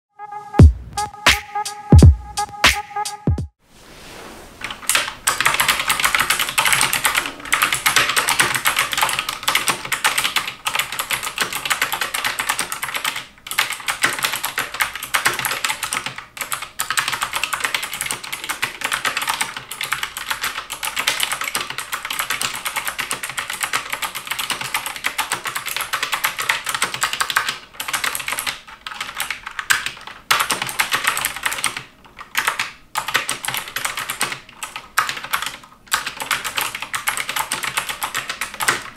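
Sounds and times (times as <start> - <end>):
clicky keyboard typing: 4.9 - 38.9.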